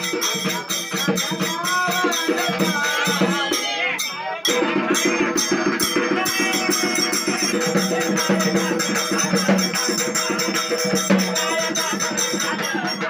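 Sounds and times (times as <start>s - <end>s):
brass hand cymbals: 0.0s - 13.0s
singing: 0.0s - 13.0s
small hand drum: 0.0s - 13.0s.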